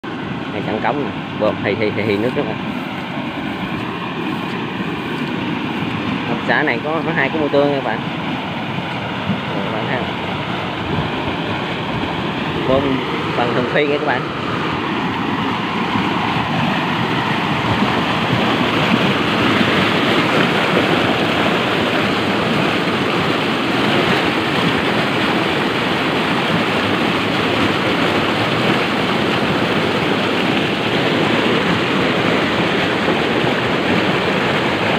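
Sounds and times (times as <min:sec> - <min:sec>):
water gushing from pipes: 0:00.2 - 0:34.9.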